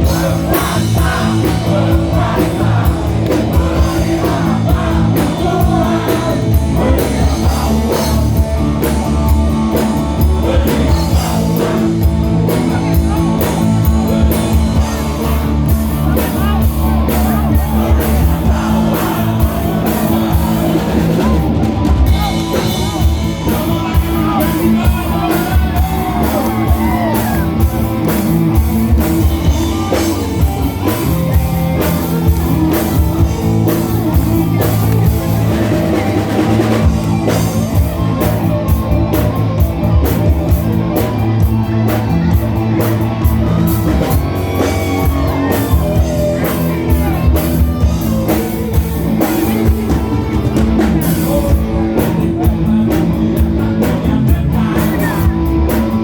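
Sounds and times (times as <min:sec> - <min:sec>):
live rock band playing: 0:00.0 - 0:56.0
person singing: 0:00.0 - 0:56.0.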